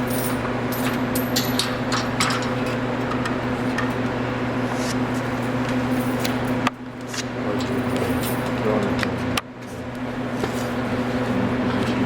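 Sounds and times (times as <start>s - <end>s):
electrical hum with fan noise: 0.0s - 12.0s.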